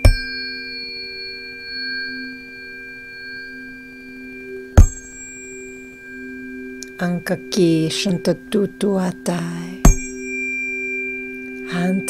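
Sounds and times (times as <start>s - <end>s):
tuning forks ringing: 0.0s - 12.0s.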